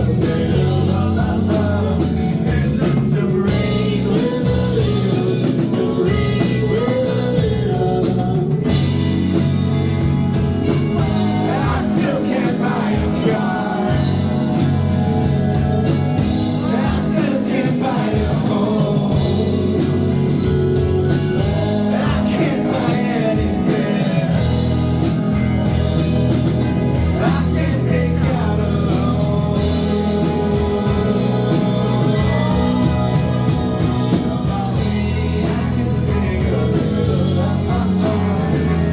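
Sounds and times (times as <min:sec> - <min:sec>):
person singing: 0:00.0 - 0:09.0, 0:10.7 - 0:38.9
live band playing: 0:00.0 - 0:38.9
steady drum beat: 0:00.0 - 0:38.9.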